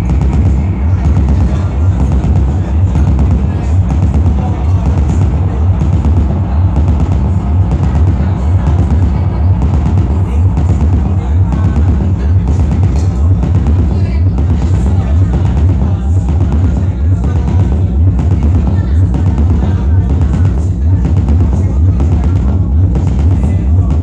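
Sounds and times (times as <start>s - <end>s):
deep bass: 0.0s - 24.0s
electronic percussion and textures: 0.0s - 24.0s
pulsing kick drum: 0.0s - 24.0s.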